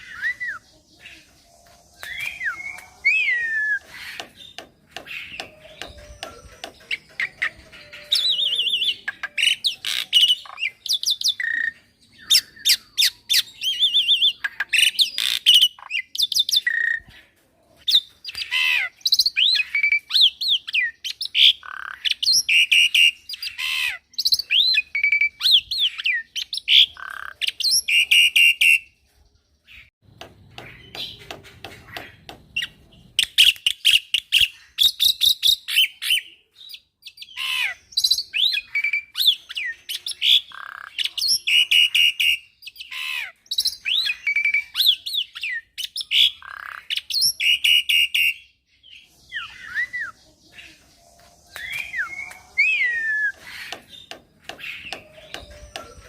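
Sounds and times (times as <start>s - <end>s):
myna bird singing: 0.0s - 56.0s.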